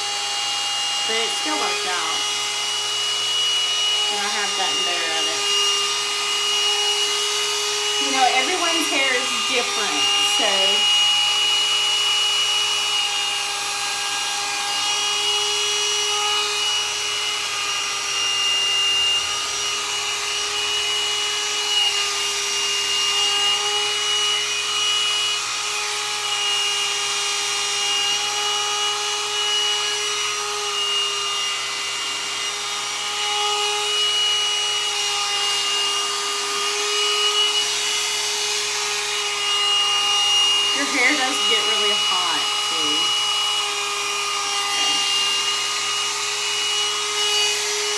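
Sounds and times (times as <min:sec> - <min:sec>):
hot-air dryer brush running: 0:00.0 - 0:47.9.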